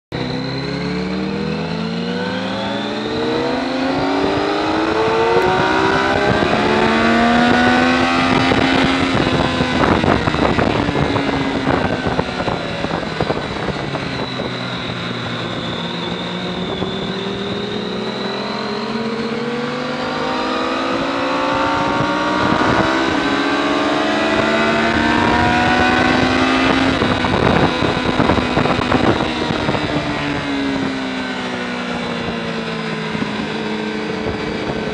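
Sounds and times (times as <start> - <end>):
sport bike engine revving: 0.1 - 34.9
wind noise on microphone: 0.1 - 34.9.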